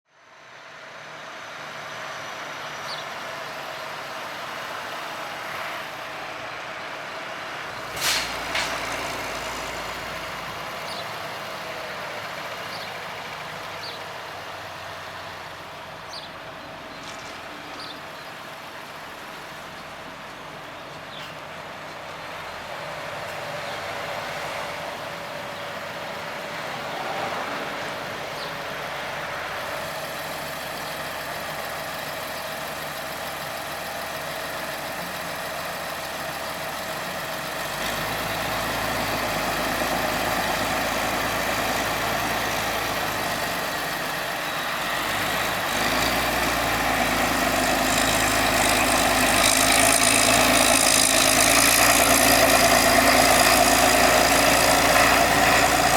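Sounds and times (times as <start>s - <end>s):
tractor diesel engine rumbling: 0.3s - 55.9s.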